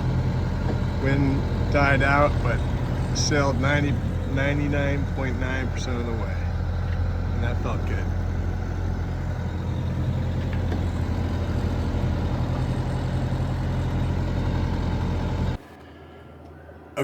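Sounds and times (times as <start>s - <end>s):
boat diesel engine humming: 0.0s - 15.6s.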